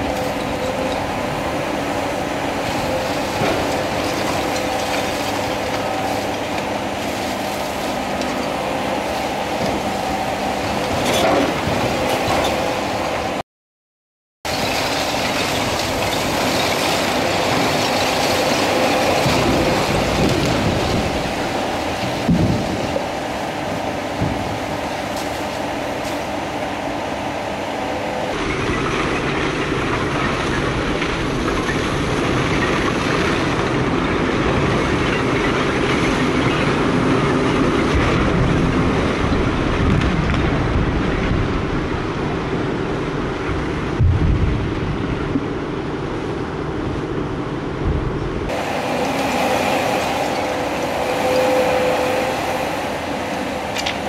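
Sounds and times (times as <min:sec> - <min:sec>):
excavator engine and hydraulics: 0:00.0 - 0:13.4, 0:14.5 - 0:54.0.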